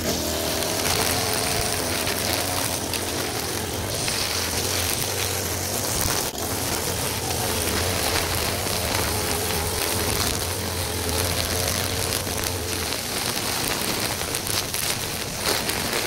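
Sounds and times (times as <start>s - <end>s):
string trimmer cutting grass: 0.0s - 16.0s.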